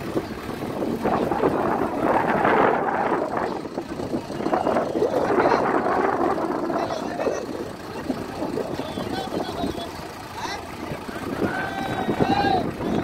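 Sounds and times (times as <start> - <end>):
wind noise on microphone: 0.0 - 9.9, 10.8 - 13.0
diesel engine revving: 0.0 - 13.0.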